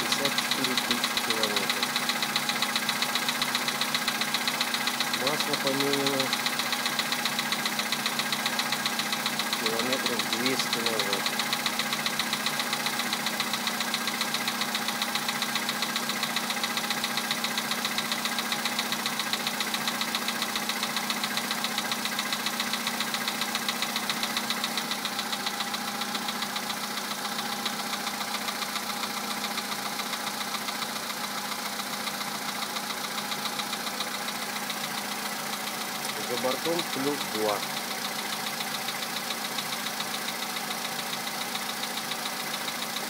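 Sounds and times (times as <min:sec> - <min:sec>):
car engine idling with metallic knock: 0:00.0 - 0:43.0.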